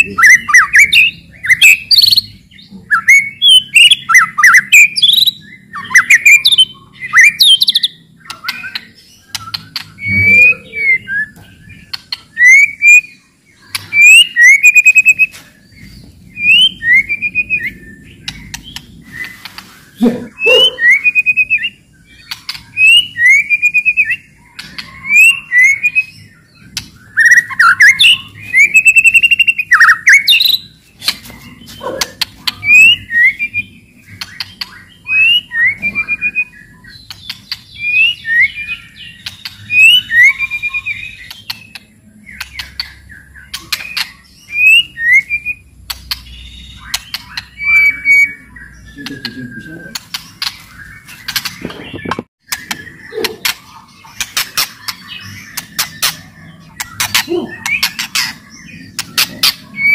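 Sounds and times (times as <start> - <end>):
bird whistling song: 0.0 - 59.9.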